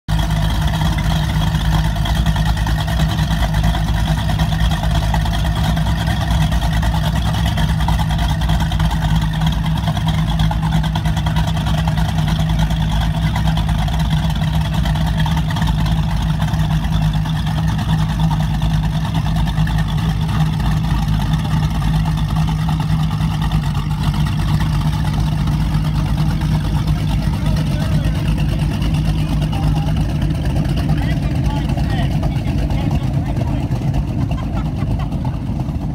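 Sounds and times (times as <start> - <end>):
powerboat engine idling: 0.1 - 35.9.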